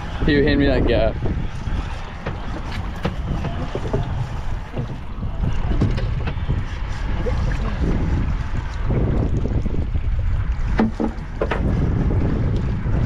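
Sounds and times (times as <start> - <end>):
water sloshing against boat hull: 0.0 - 13.0
wind buffeting microphone: 0.0 - 13.0.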